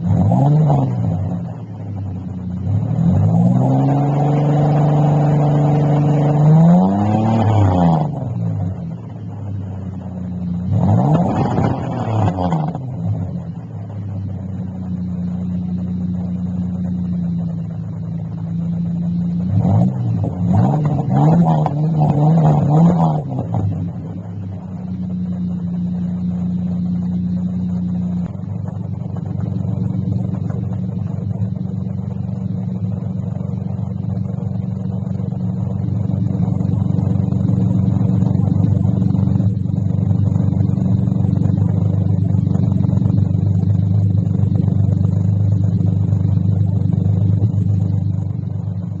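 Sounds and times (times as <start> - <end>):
engine exhaust rumble: 0.0 - 49.0.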